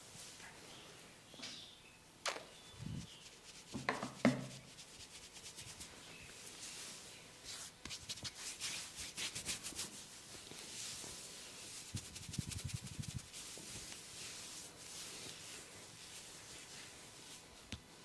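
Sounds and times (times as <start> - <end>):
scratching and rubbing on hair: 2.8 - 17.7.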